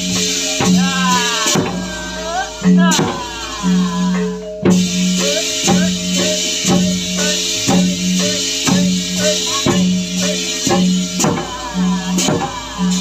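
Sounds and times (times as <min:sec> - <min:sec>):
heavy drum beat: 0:00.0 - 0:13.0
rattling percussion: 0:00.0 - 0:13.0.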